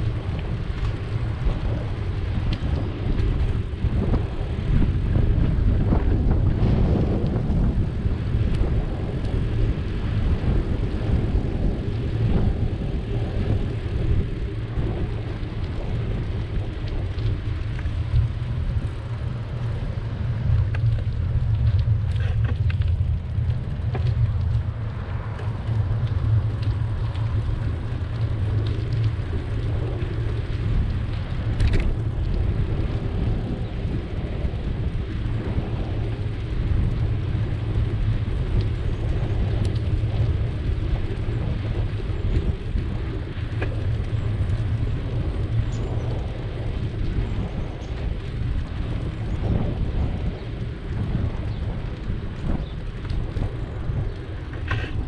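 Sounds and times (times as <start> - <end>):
tyres rolling on rough asphalt: 0.0 - 55.0
wind buffeting microphone: 0.0 - 55.0.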